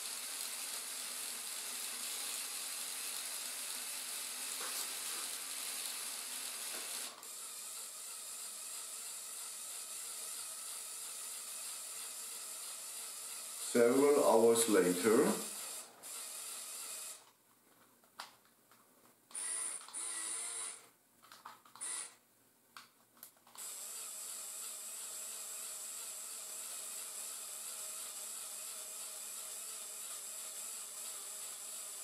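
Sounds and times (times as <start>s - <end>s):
small electric motor running: 0.0s - 17.3s, 19.3s - 20.9s, 21.8s - 22.2s, 23.6s - 32.0s.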